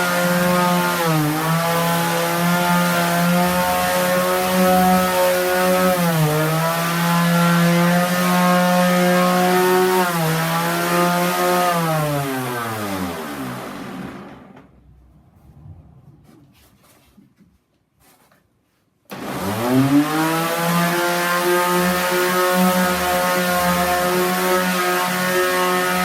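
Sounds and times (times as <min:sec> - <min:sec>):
electric sander whining: 0:00.0 - 0:14.6, 0:19.1 - 0:26.0.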